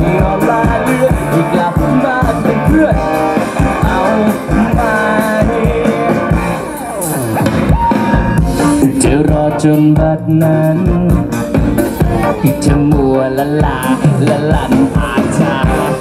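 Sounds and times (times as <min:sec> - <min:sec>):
live pop-rock band: 0:00.0 - 0:16.0.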